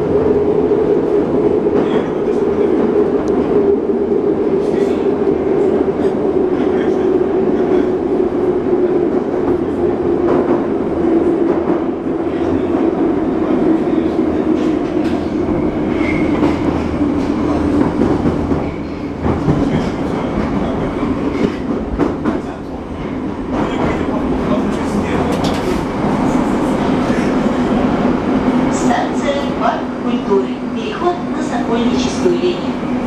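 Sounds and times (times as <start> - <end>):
train roar in tunnel: 0.0 - 33.0.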